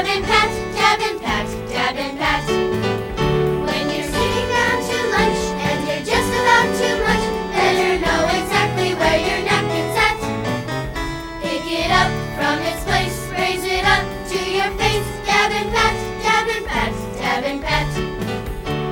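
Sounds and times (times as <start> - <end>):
instrumental backing music: 0.0 - 18.9.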